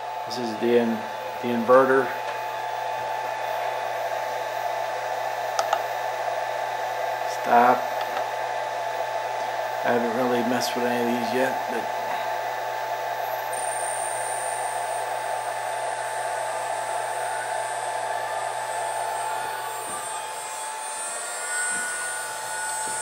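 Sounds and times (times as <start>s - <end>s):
router spindle whine: 0.0s - 23.0s
thin high whine: 0.0s - 23.0s.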